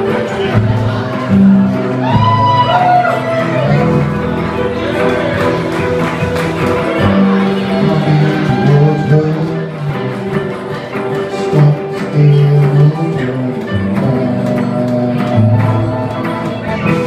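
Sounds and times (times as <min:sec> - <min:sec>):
plucked guitar: 0:00.0 - 0:17.0
rhythmic strums or claps: 0:00.0 - 0:17.0.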